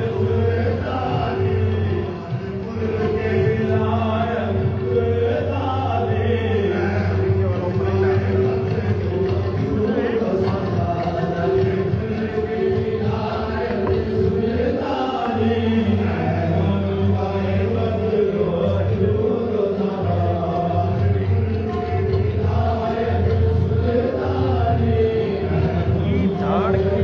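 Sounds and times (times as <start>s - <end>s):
group chanting: 0.0s - 7.4s, 8.0s - 27.0s.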